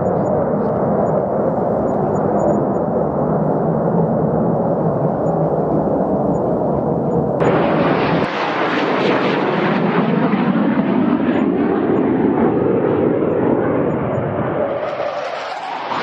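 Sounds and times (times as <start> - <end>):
fighter jet engine roar: 0.0 - 16.0.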